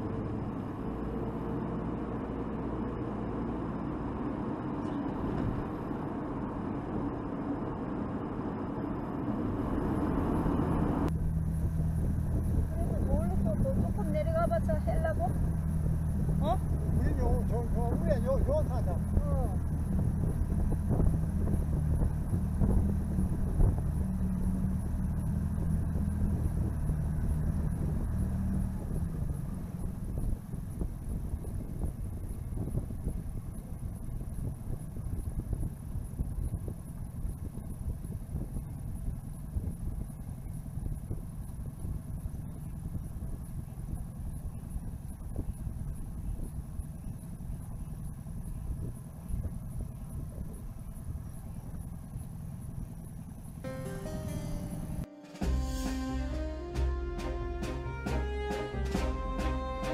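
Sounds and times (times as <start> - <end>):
car cabin road and engine hum: 0.0 - 59.9.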